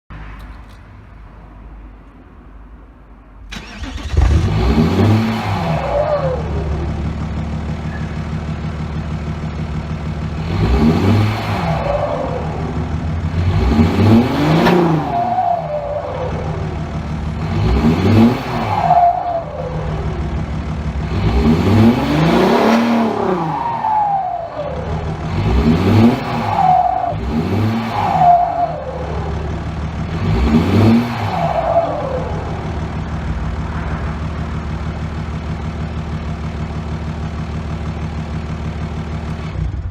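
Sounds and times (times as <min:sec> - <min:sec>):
diesel engine idling and revving: 0:00.1 - 0:39.9.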